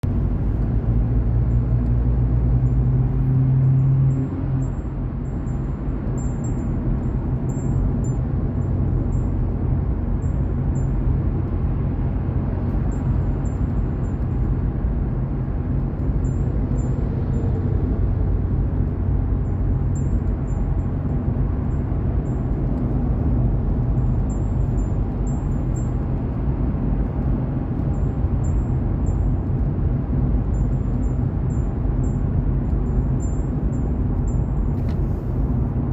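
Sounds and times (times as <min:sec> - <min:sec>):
low rumble of vehicles: 0:00.0 - 0:35.9.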